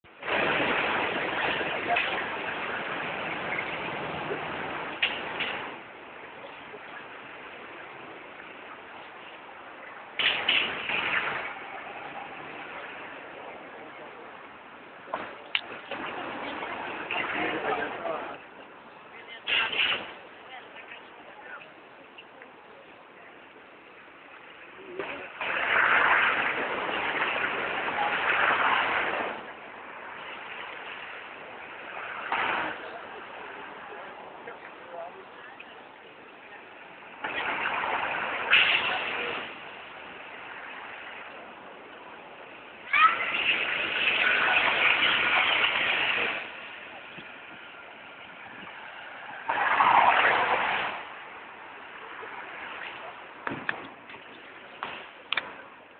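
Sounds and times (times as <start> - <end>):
city street noise: 0.0 - 55.9
low traffic hum: 0.0 - 55.9
vehicles passing: 0.0 - 55.9.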